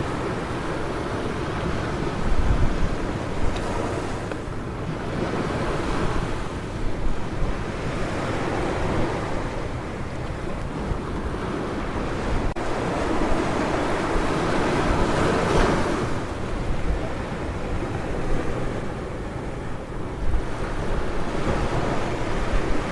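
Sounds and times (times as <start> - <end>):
waves breaking on beach: 0.0 - 22.9
wind on microphone: 0.0 - 22.9.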